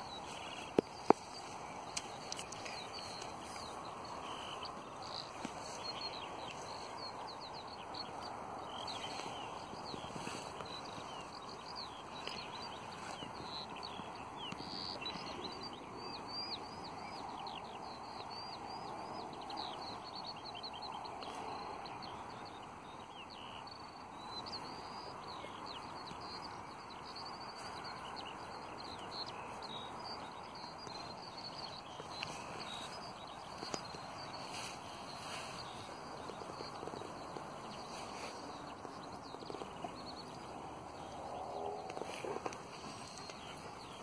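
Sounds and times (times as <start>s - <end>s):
outdoor background hiss: 0.0s - 44.0s
small birds chirping: 0.0s - 44.0s.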